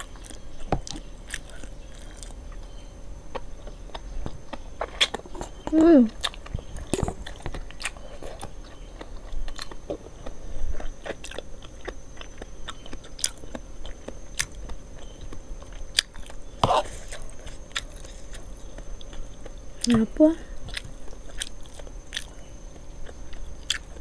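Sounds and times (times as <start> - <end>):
close chewing of noodles: 0.0 - 24.0.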